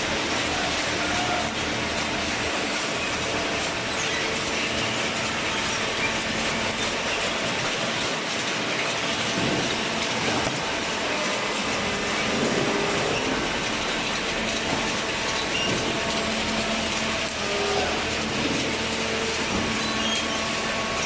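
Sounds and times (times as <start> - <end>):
baler machine running with rattling: 0.0 - 21.0.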